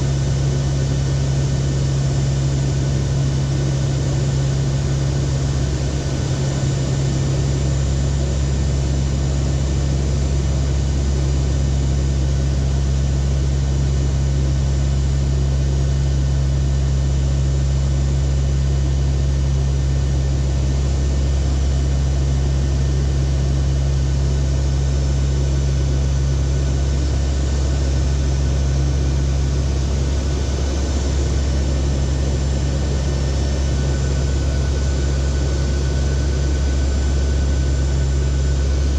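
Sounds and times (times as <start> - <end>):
turboprop engines low hum: 0.0 - 38.9.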